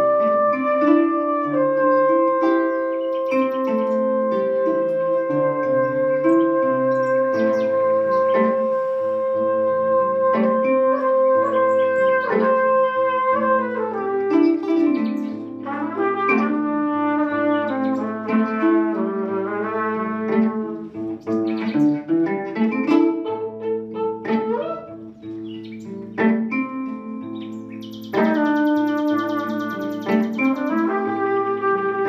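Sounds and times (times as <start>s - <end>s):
kora strings plucked: 0.0s - 28.6s
trumpet melody: 0.0s - 32.0s.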